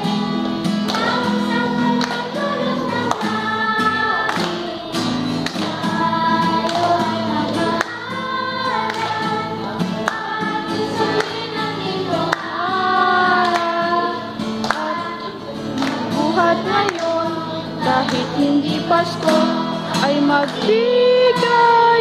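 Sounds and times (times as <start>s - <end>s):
hand claps: 0.0s - 21.7s
children's choir singing: 0.0s - 22.0s.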